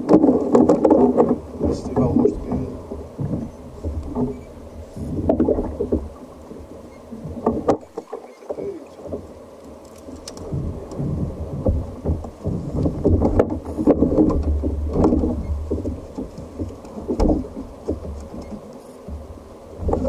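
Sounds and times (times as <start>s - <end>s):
water sloshing against kayak hull: 0.0s - 20.0s.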